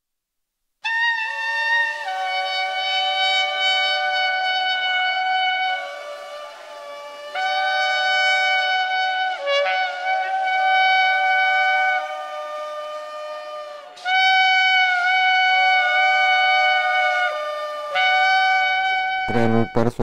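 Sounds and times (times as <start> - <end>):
ram's horns blowing long blasts: 0.8 - 20.0.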